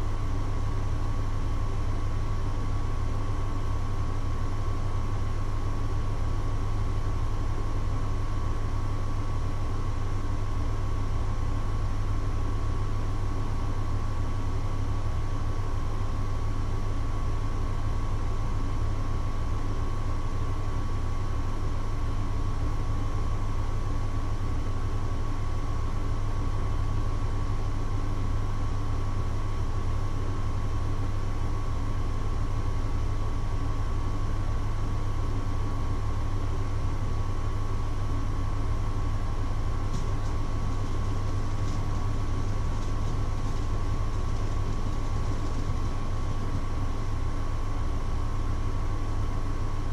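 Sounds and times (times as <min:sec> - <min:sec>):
mechanical hum: 0:00.0 - 0:49.9.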